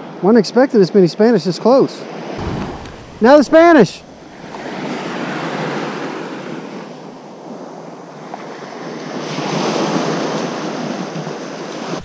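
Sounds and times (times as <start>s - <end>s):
surf waves breaking on sand: 2.0s - 12.0s.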